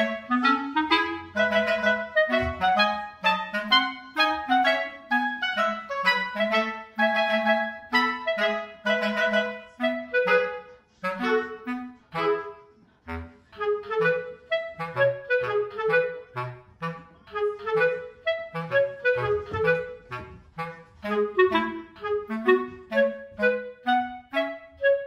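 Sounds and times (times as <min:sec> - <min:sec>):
instrumental tune with bouncing bass: 0:00.0 - 0:25.0.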